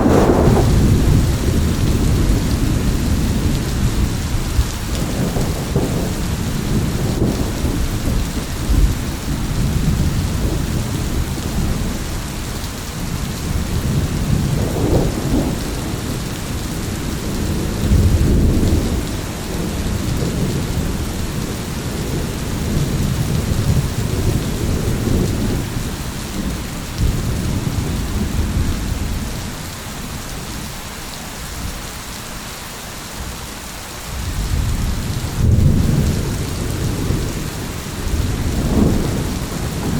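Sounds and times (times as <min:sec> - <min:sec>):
rolling thunder: 0:00.0 - 0:30.7, 0:34.1 - 0:39.9
heavy rain: 0:00.0 - 0:39.9.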